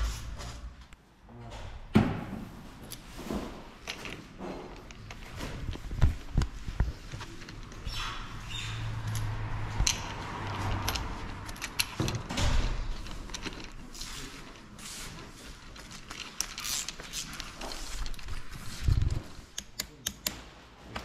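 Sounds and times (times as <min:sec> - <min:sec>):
clicks and knocks of metal parts: 0:03.8 - 0:21.0.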